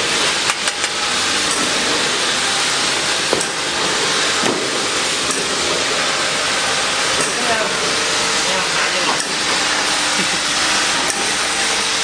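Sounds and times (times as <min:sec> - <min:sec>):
bottling machine hissing: 0:00.0 - 0:12.0.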